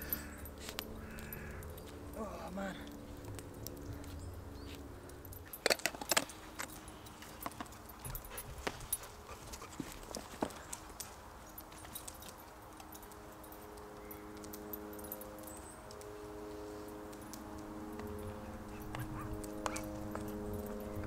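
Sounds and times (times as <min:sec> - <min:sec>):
propeller aircraft droning: 0:00.0 - 0:21.0.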